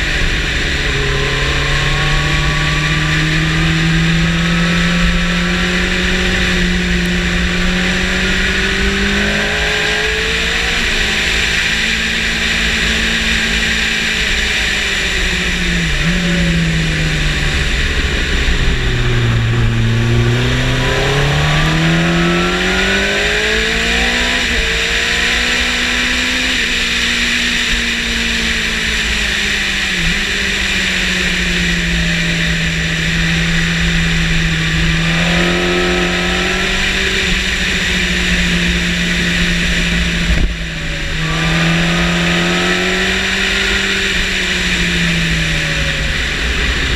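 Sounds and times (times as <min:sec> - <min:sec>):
motorcycle engine at speed: 0:00.0 - 0:46.9.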